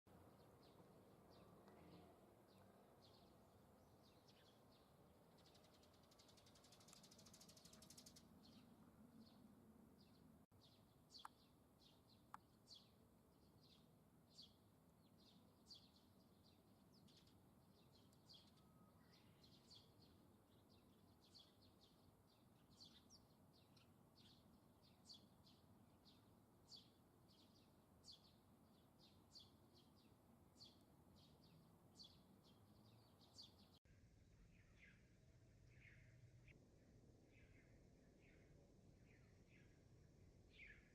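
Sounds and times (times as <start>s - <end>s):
faint bird chirps: 0.3s - 40.9s.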